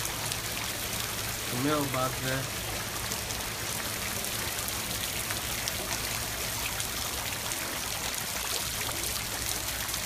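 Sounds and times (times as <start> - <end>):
rain falling on water: 0.0 - 10.0.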